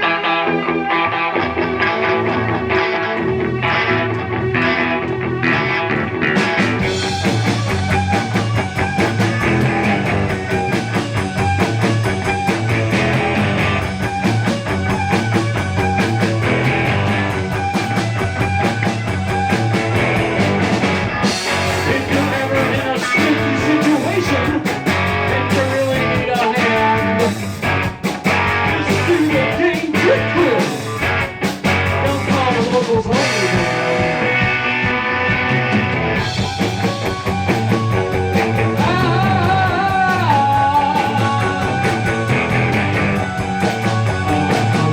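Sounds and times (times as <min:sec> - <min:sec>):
electric guitar: 0:00.0 - 0:44.9
rock band playing live: 0:00.0 - 0:44.9.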